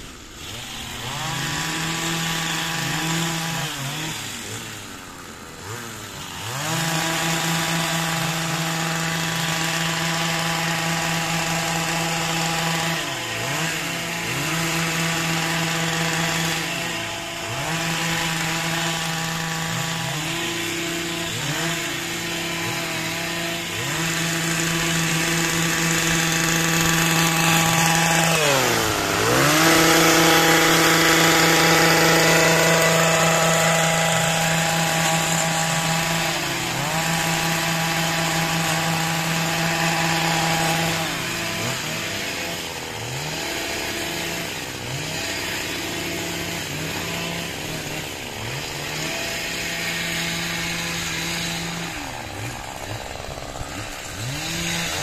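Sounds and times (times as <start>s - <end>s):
hedge trimmer engine revving: 0.0s - 55.0s.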